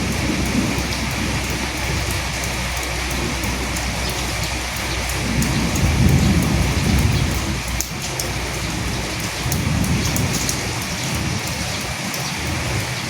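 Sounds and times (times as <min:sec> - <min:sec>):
drops ticking: 0:00.0 - 0:13.0
low rumble: 0:00.0 - 0:13.0
rain on dead leaves: 0:00.0 - 0:13.0.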